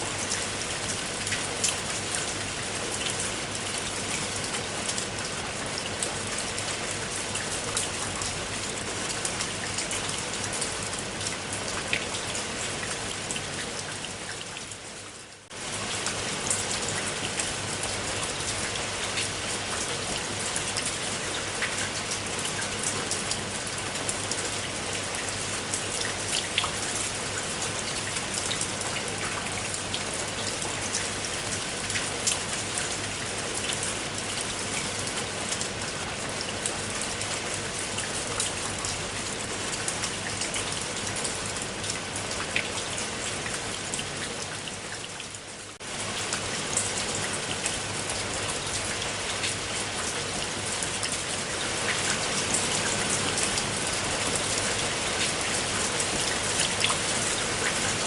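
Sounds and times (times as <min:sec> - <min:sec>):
rain falling: 0:00.0 - 0:58.0
raindrops ticking on a surface: 0:00.1 - 0:58.0.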